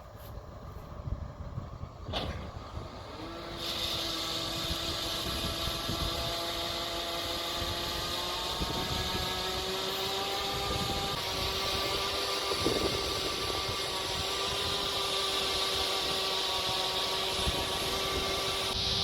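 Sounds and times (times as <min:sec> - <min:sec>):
combine harvester engine hum: 0:00.0 - 0:19.0
loud hiss: 0:03.5 - 0:19.0.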